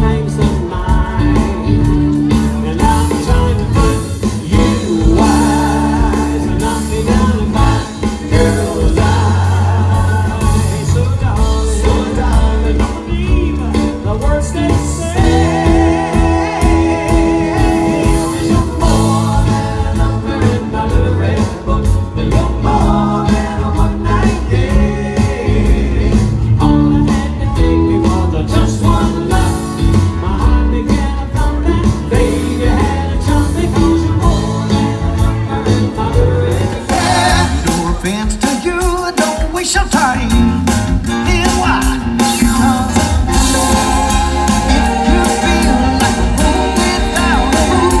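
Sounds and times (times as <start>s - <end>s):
live band playing dance music: 0.0s - 48.0s
person singing with vibrato: 0.0s - 48.0s.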